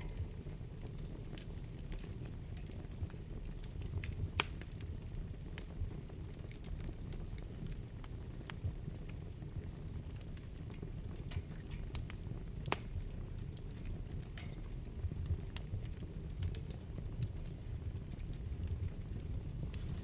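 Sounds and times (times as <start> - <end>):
fire crackles and pops: 0.0 - 20.0
fire flames rumbling: 0.0 - 20.0.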